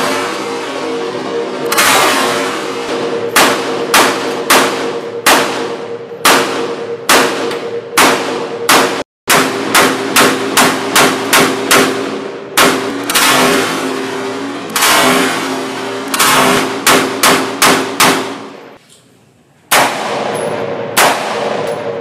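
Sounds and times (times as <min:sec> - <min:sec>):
rifle gunshots: 0:01.7 - 0:14.1, 0:14.8 - 0:18.6, 0:19.7 - 0:22.0.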